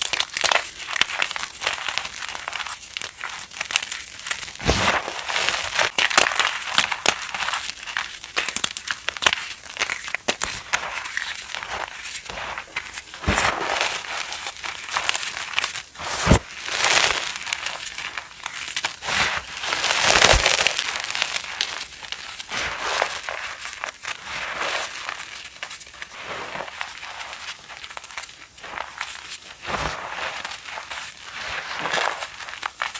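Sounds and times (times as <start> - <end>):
chalk crunching: 0.0 - 32.9.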